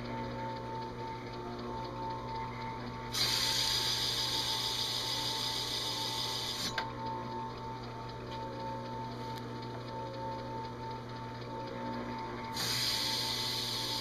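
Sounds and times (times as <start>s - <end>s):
drill press humming: 0.0s - 14.0s.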